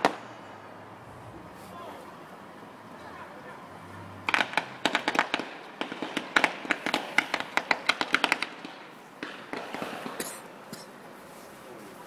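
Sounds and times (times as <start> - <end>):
fireworks cracking: 0.0 - 2.3, 4.2 - 12.0.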